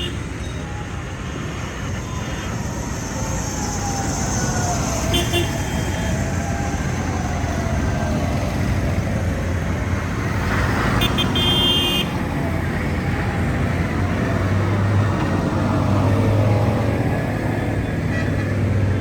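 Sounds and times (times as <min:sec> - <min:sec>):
tractor diesel engines rumbling: 0:00.0 - 0:19.0.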